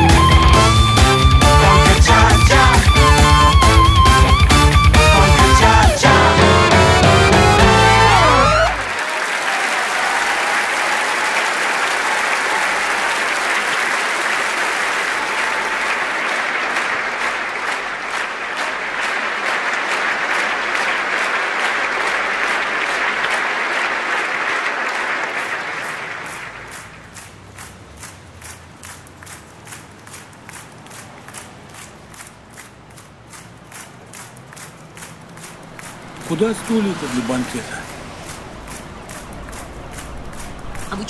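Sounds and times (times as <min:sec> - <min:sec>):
large audience applauding: 0:00.0 - 0:41.0.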